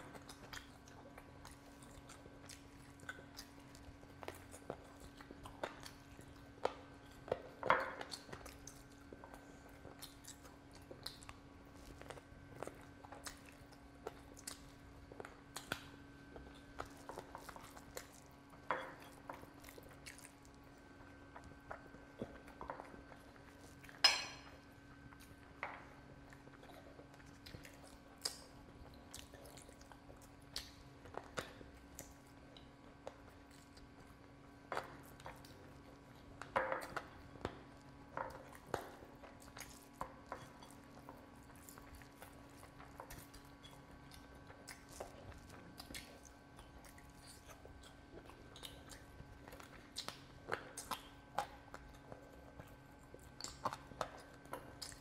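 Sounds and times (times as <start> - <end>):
soft clicks and squishes of food: 0.0 - 55.0
wet chewing and lip smacks: 0.0 - 55.0.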